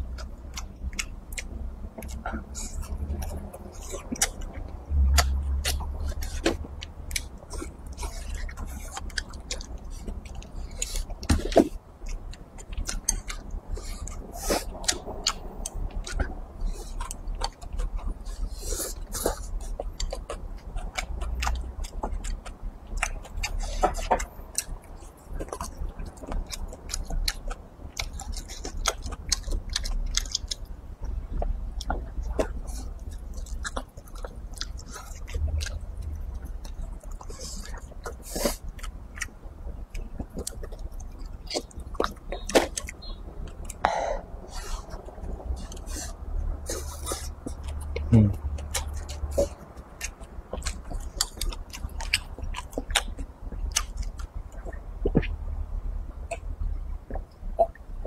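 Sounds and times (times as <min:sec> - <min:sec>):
wet chewing and lip-smacking: 0:00.0 - 0:58.0.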